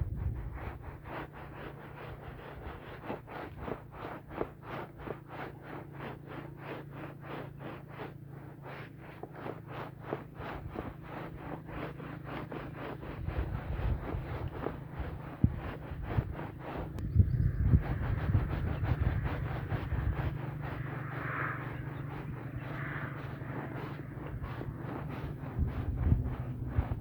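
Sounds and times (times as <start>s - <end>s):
steady low hum: 0.0s - 27.0s
wet rug scrubbed by hand: 0.0s - 27.0s.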